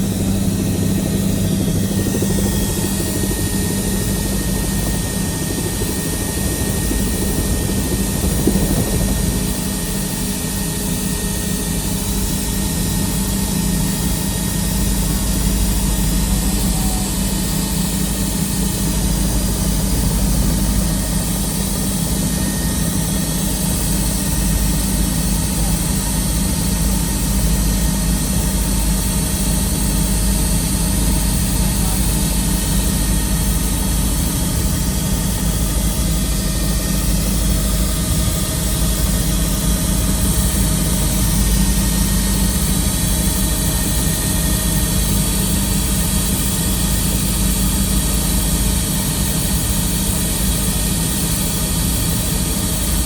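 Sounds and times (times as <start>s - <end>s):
helicopter cabin drone: 0.0s - 53.0s.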